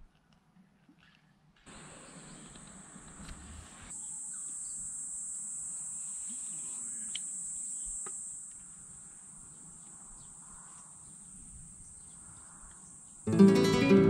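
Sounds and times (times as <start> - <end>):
insects droning: 1.7 - 14.0.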